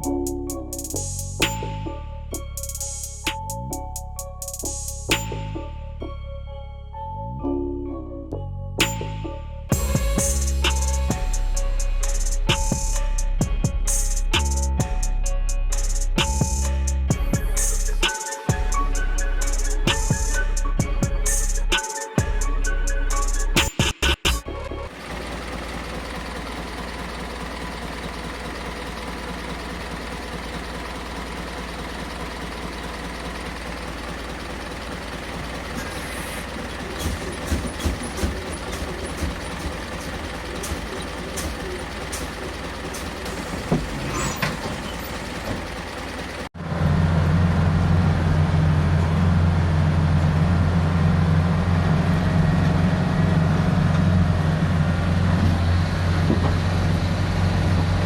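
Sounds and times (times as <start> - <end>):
diesel engine running: 0.0 - 6.2, 8.8 - 58.0.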